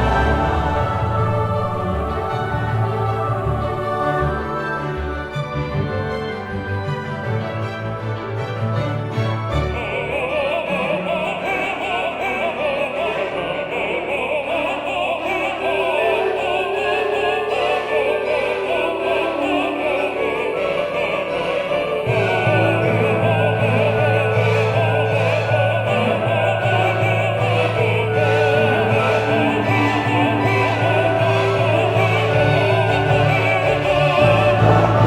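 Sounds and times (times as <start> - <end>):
operatic voice singing: 0.0 - 6.0, 9.5 - 35.0
orchestral accompaniment: 0.0 - 11.8, 16.4 - 35.0.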